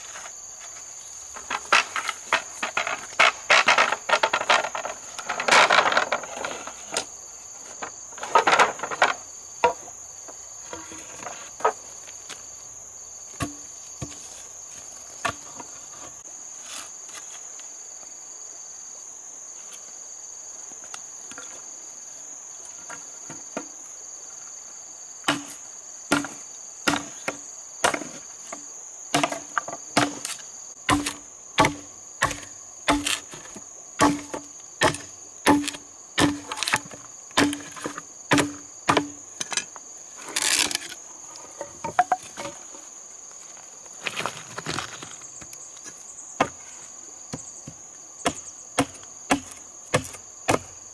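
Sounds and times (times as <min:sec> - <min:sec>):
pulsing insect chirp: 0:00.0 - 0:44.0
insects buzzing high-pitched: 0:00.0 - 0:44.3.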